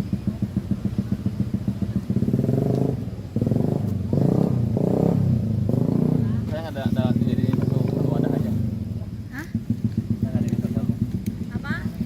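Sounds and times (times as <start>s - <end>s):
engine running and revving: 0.0s - 12.0s.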